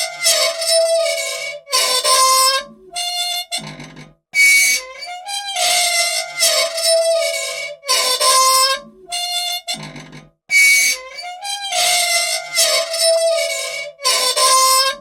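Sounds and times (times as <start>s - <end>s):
metal machine parts squeaking: 0.0s - 15.0s.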